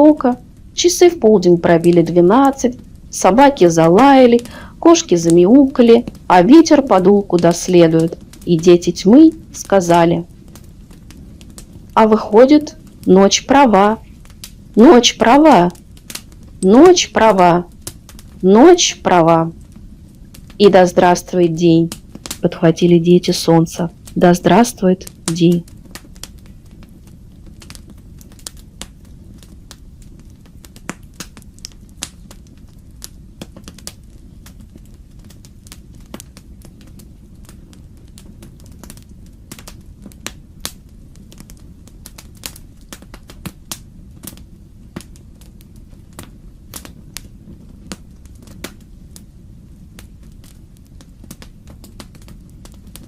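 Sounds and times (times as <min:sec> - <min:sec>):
low fire rumble: 0:00.0 - 0:53.0
wood fire crackling: 0:00.0 - 0:53.0.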